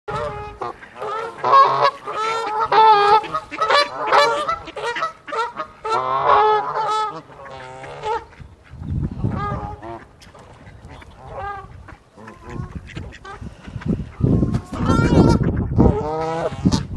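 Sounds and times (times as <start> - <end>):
geese honking: 0.1 - 16.9.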